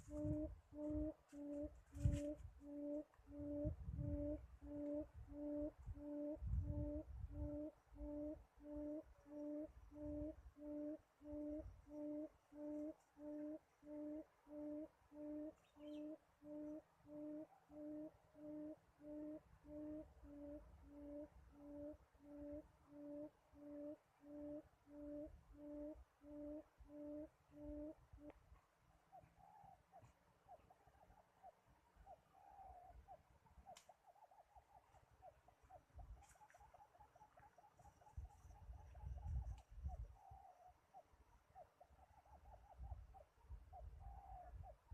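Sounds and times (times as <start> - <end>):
bird cooing: 0.0 - 28.4, 29.1 - 44.9.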